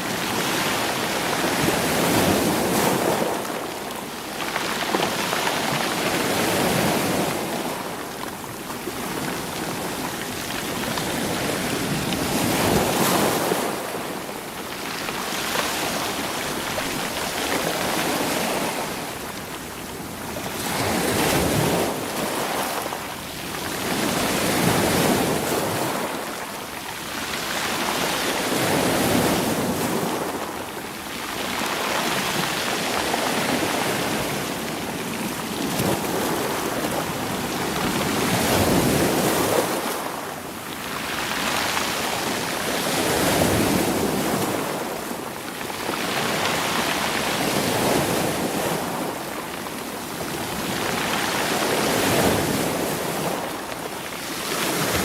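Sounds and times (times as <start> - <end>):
waves washing over stones: 0.0 - 55.0.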